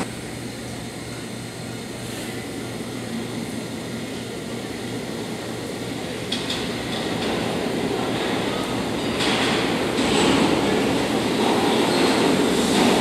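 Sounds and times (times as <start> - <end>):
distant subway train rumble: 0.0 - 13.0.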